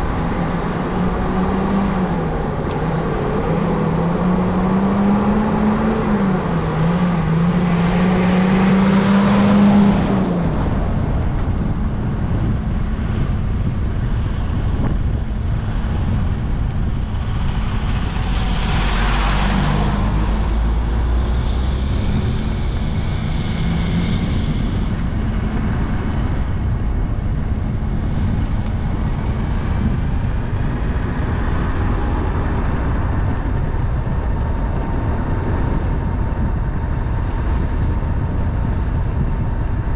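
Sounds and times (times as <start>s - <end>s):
engine drone: 0.0s - 39.9s
truck low rumble: 0.0s - 39.9s
wind and road rumble: 0.0s - 39.9s.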